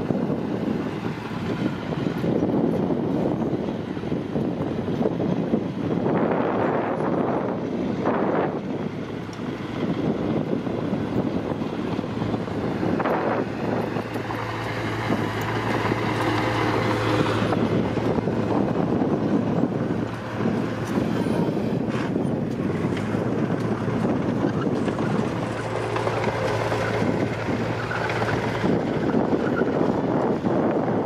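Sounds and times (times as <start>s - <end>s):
diesel engine running: 0.0s - 31.0s
wind noise on microphone: 0.0s - 31.0s.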